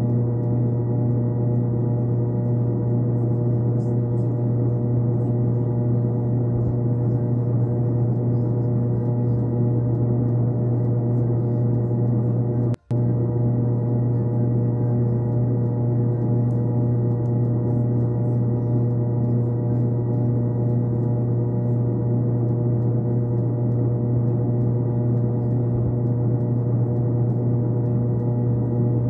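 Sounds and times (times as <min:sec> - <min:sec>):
steady drone of held tones: 0:00.0 - 0:29.0.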